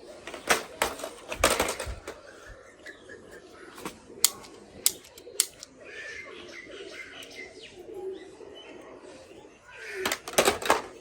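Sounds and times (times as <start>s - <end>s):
faint bird cooing and chirping: 0.0s - 11.0s.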